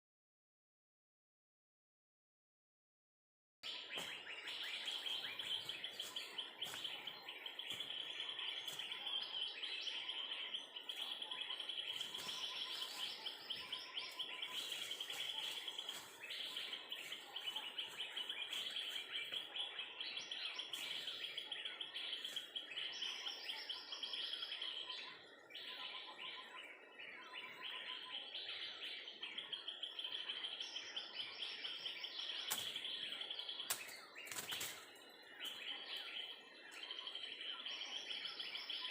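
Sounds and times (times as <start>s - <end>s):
small birds chirping: 3.6s - 38.9s.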